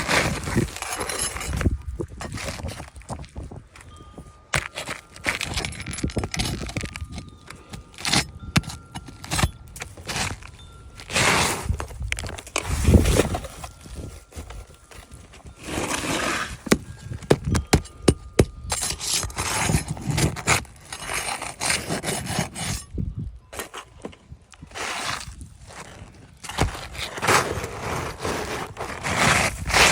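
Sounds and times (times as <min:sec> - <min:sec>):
shingles scraping and rubbing: 0:00.0 - 0:03.6, 0:04.6 - 0:22.9, 0:23.6 - 0:29.9.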